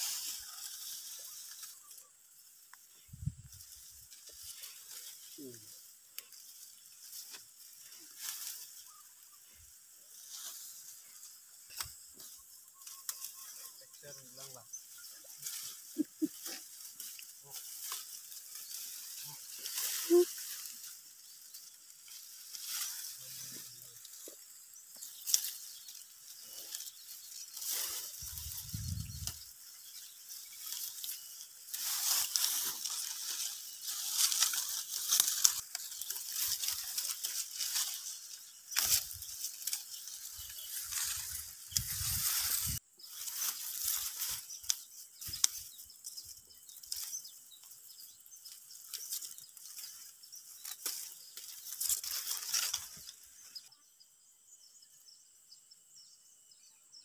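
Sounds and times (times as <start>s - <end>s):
dry rice stalks rustling: 0.0s - 53.7s.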